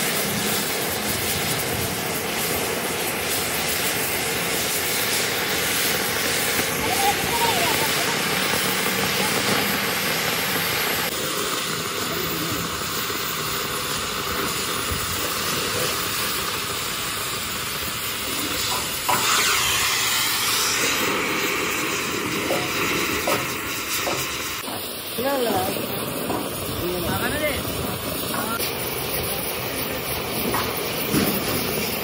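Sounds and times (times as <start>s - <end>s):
cutting torch hissing: 0.0s - 32.0s.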